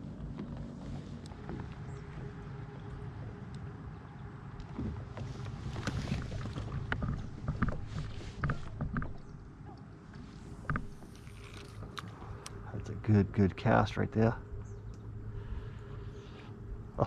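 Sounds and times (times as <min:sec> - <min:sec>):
water: 0:00.0 - 0:17.0
wind: 0:00.0 - 0:17.0.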